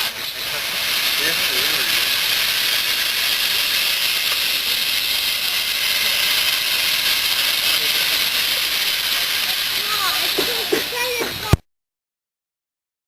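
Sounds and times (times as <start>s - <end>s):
steam locomotive hissing: 0.0s - 11.6s.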